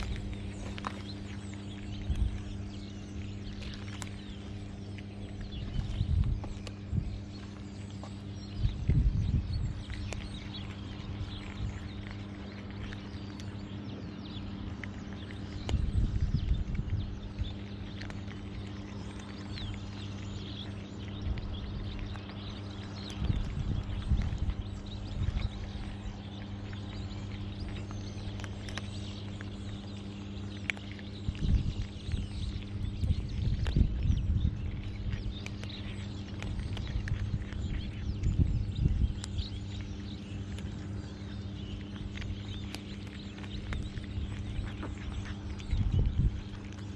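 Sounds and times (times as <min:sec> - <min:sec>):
cats crunching dry kibble: 0:00.0 - 0:46.9
steady low hum: 0:00.0 - 0:46.9.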